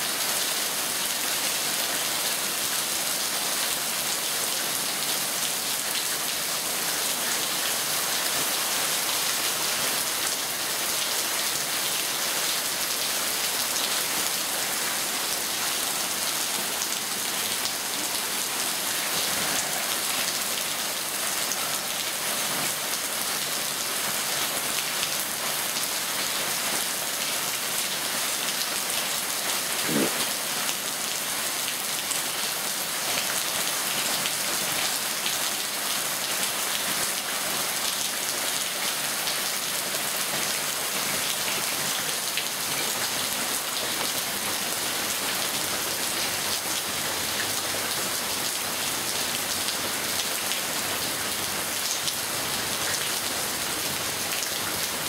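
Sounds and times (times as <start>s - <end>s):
rain falling on paving: 0.0s - 55.0s.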